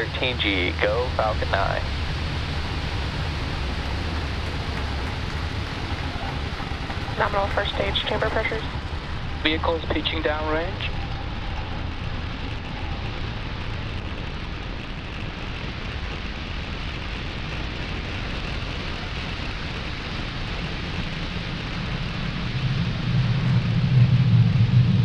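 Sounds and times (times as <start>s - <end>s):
deep rumble: 0.0s - 25.0s
rocket engines rushing: 0.0s - 25.0s.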